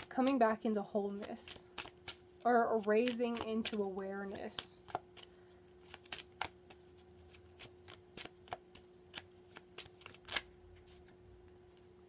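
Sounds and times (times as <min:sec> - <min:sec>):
cards being shuffled: 0:00.0 - 0:11.2
faint steady hum: 0:00.0 - 0:12.0.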